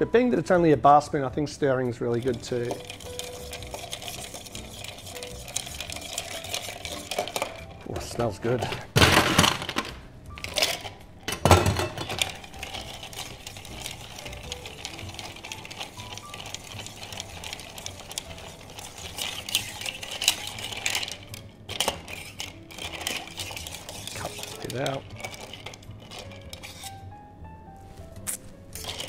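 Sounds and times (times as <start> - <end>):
spoon stirring ice in metal tin: 1.6 - 27.1, 28.8 - 29.0
ice clattering into metal tin: 2.0 - 26.9.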